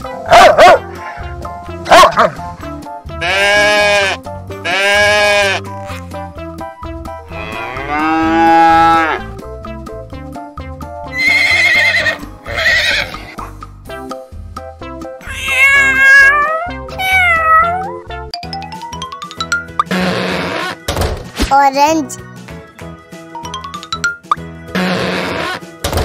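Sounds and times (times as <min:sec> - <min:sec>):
background music with steady beat: 0:00.0 - 0:26.0.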